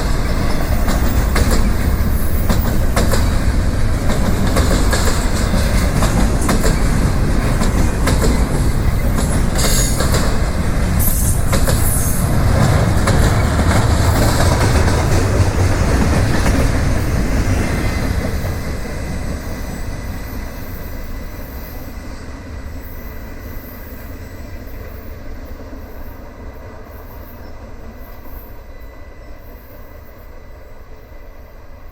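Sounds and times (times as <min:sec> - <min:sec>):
freight train cars rolling: 0:00.0 - 0:31.2.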